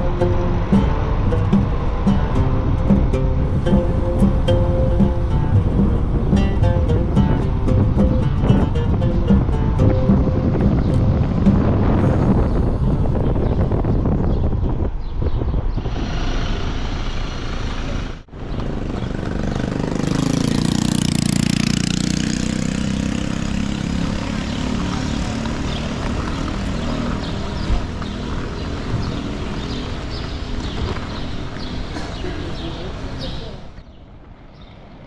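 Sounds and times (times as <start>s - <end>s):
wind rushing over microphone: 0.0s - 31.9s
vehicle engine droning: 0.0s - 33.8s.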